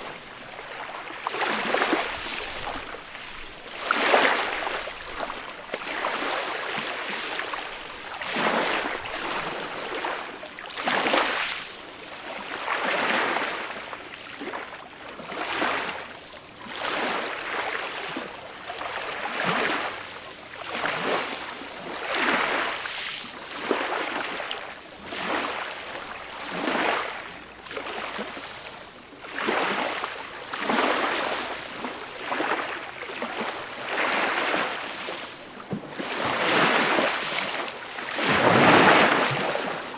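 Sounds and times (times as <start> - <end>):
gentle sea waves breaking: 0.0 - 39.9.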